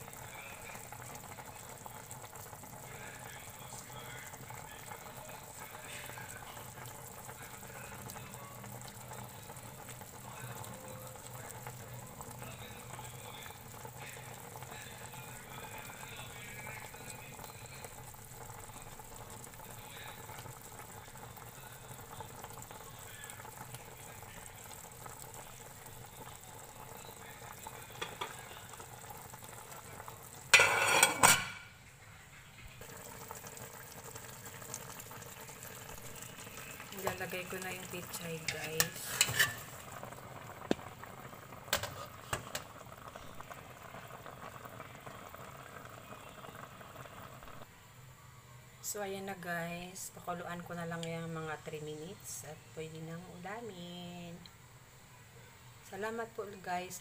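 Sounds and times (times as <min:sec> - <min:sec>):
stew bubbling in a pot: 0:00.0 - 0:31.7, 0:32.7 - 0:47.7.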